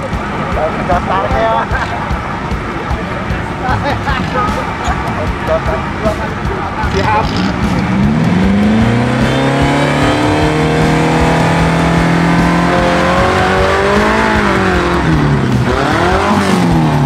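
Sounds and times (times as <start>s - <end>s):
engine revving under load: 0.0s - 17.0s.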